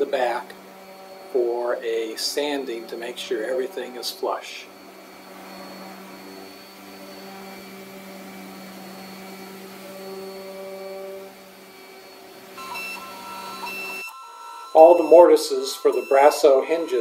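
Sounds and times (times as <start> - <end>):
orbital sander on wood: 0.0 - 17.0.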